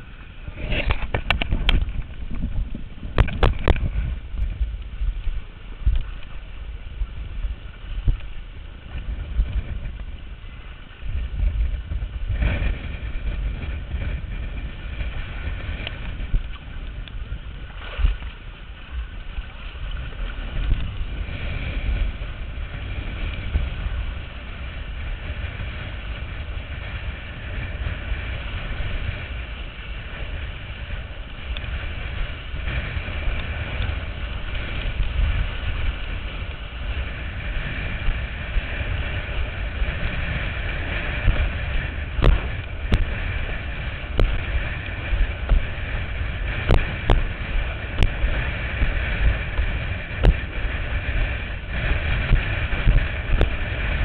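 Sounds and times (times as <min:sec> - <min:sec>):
low rumble: 0:00.0 - 0:54.0
water rushing against board: 0:00.0 - 0:54.0
wind buffeting microphone: 0:00.0 - 0:54.0.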